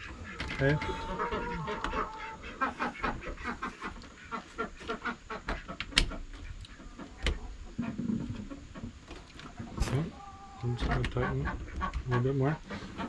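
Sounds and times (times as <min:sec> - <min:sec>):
chickens clucking faintly: 0:00.0 - 0:13.0.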